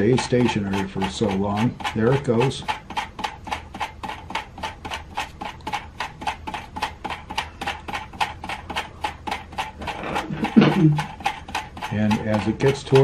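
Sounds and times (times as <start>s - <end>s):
plastic wheel clicking: 0.0s - 13.0s.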